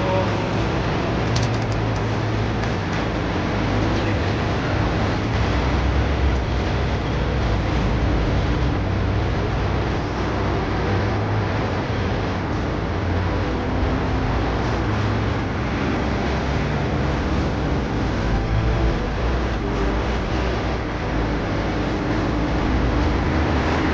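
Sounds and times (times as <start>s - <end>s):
buses and cars passing: 0.0s - 23.9s
street noise: 0.0s - 23.9s.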